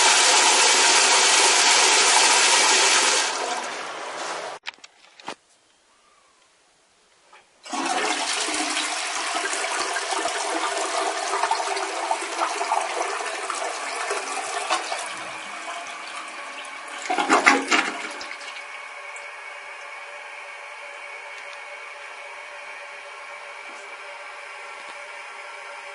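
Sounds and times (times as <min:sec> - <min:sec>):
toilet flushing: 0:00.0 - 0:04.6, 0:07.6 - 0:25.9.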